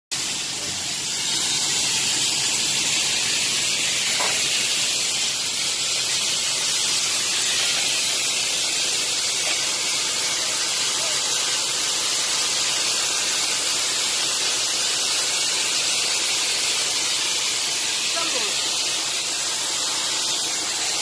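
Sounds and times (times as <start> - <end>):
loud steady hiss: 0.1 - 21.0.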